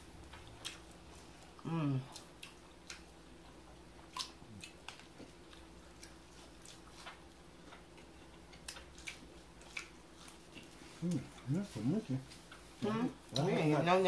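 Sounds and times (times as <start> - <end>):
low steady hum: 0.0 - 14.0
chewing crunches: 0.2 - 13.5.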